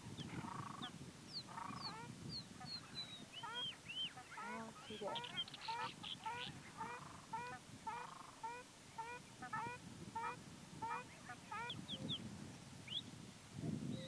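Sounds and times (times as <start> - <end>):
terns calling: 0.3 - 12.2.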